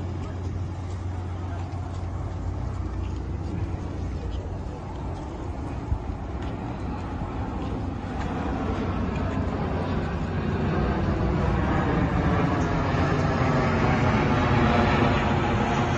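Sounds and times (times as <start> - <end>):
engine low drone: 0.0 - 15.9.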